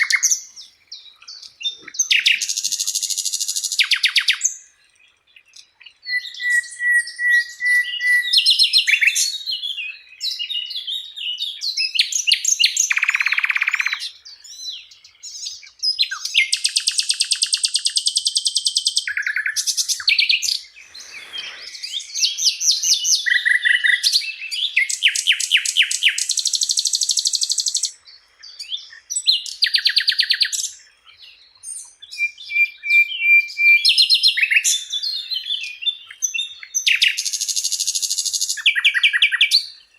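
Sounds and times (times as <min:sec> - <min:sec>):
bird song with trills and whistles: 0:00.0 - 0:39.9.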